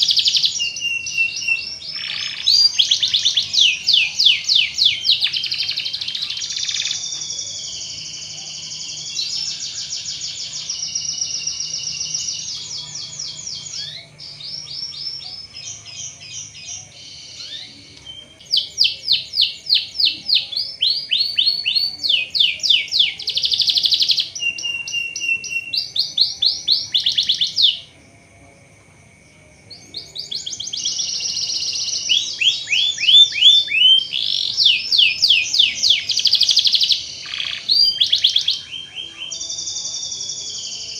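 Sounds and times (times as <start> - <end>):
canary singing trills: 0.0 - 28.0, 29.6 - 40.9.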